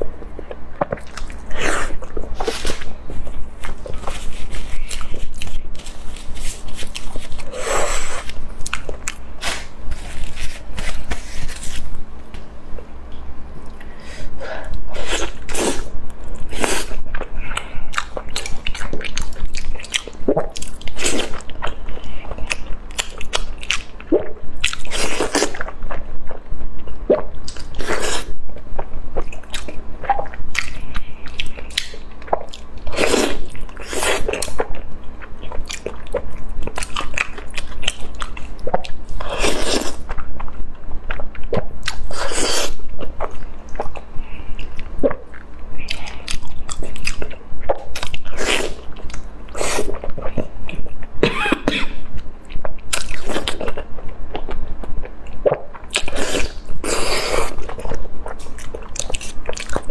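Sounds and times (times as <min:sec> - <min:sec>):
person chewing wetly: 0:00.0 - 0:11.3, 0:16.2 - 0:51.1, 0:52.4 - 0:59.9.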